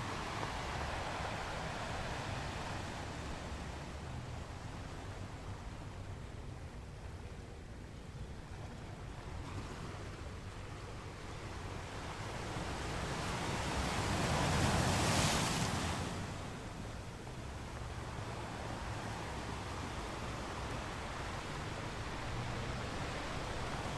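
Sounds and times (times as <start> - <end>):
low rumble of surf: 0.0 - 23.9.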